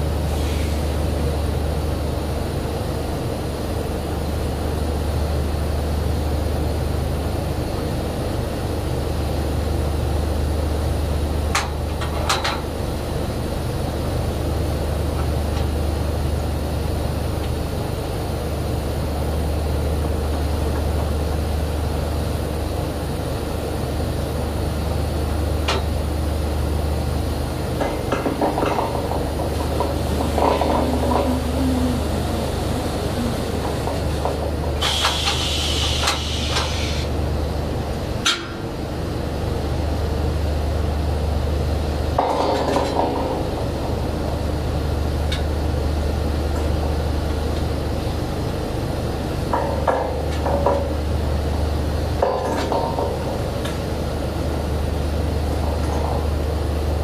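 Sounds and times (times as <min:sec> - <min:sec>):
drilling rig machinery drone: 0:00.0 - 0:57.0.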